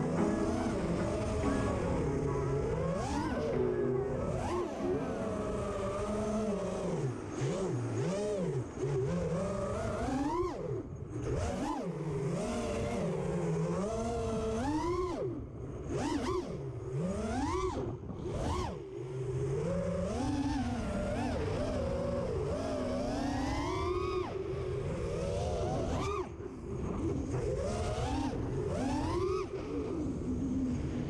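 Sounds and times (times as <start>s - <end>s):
quadcopter propellers whining: 0.0s - 31.0s.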